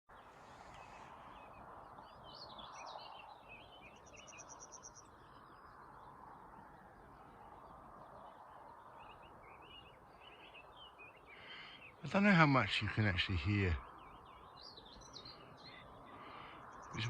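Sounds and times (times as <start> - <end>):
songbirds chirping: 0.1 - 17.0.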